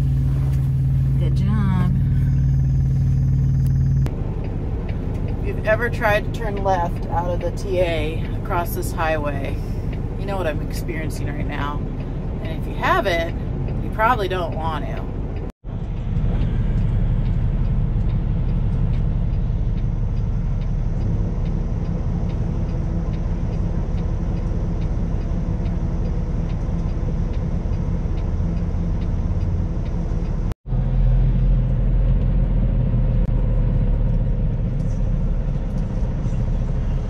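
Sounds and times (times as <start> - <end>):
diesel truck engine running: 0.0 - 37.0
turn signal ticking: 0.4 - 30.6.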